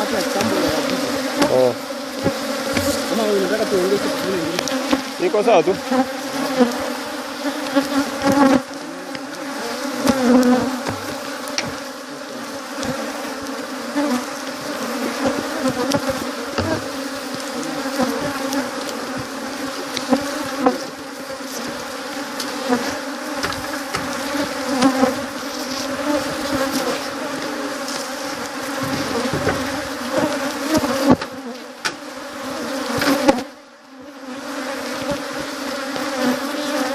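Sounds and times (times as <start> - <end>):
bees buzzing: 0.0 - 36.9.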